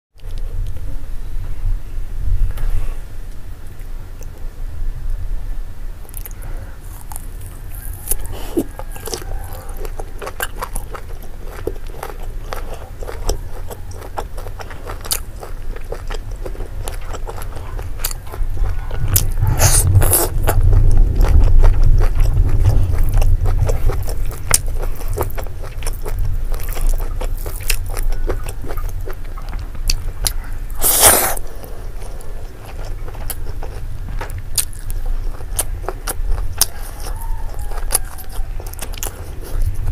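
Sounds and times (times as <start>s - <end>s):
close chewing and mouth smacks: 0.2s - 0.9s, 6.0s - 39.9s.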